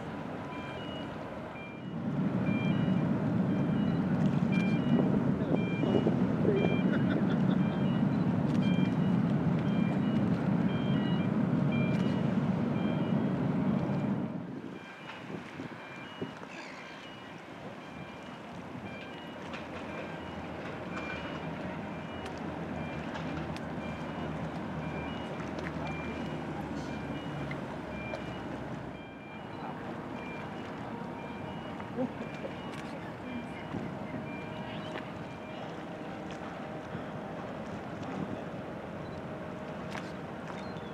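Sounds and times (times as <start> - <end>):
low engine rumble: 0.0 - 40.9
reversing alarm beeping: 0.4 - 37.1.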